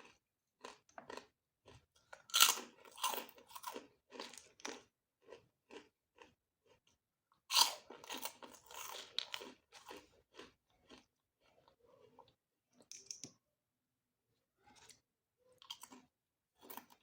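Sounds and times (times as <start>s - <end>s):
person chewing crunchy food: 0.0s - 13.4s, 14.6s - 17.0s.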